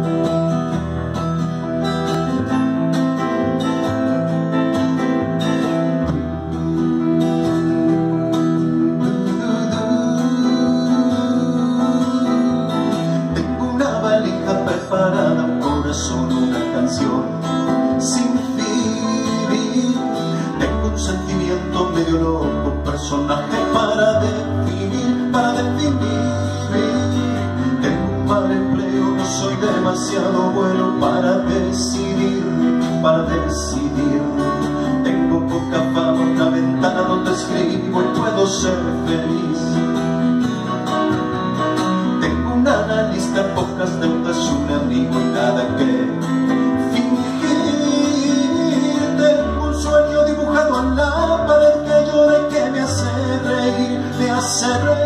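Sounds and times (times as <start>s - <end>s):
acoustic guitar strumming: 0.0s - 55.0s
keyboard piano: 0.0s - 55.0s
low bass notes: 0.0s - 55.0s
man singing: 5.9s - 40.7s, 41.8s - 55.0s.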